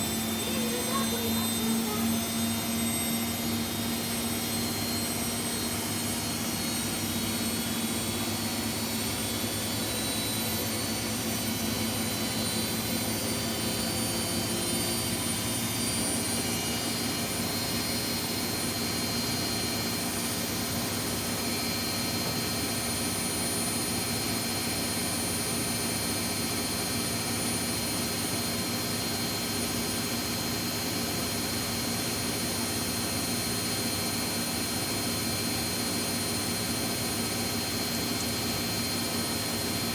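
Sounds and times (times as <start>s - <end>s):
washing machines spinning: 0.0s - 39.9s.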